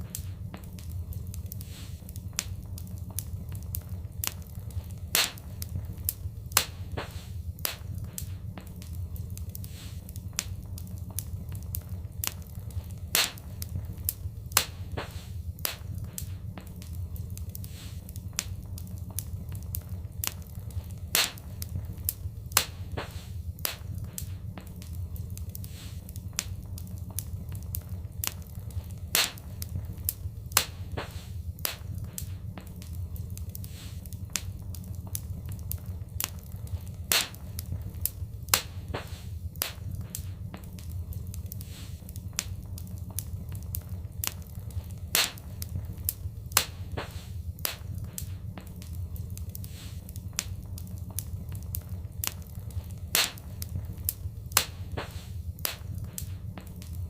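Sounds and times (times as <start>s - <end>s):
fireplace fire crackling: 0.0s - 57.0s
low steady rumble: 0.0s - 57.0s
sharp fire pops: 0.0s - 57.0s.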